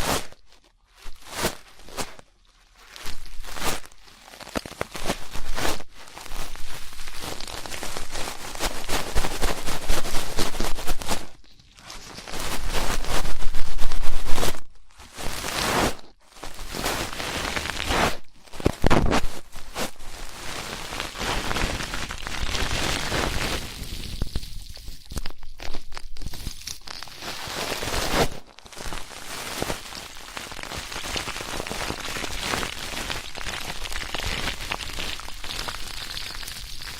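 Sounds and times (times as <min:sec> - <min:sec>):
scratching and crackling in microphone: 0:00.0 - 0:36.9.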